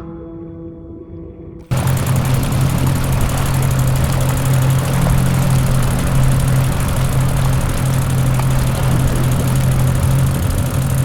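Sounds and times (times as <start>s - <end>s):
mechanical engine drone: 1.7s - 11.0s.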